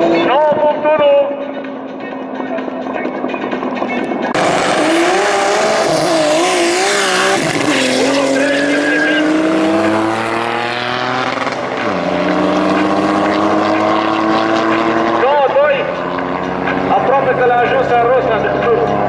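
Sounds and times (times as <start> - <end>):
gear change: 3.1 - 19.0
turbocharged car engine revving: 3.1 - 19.0.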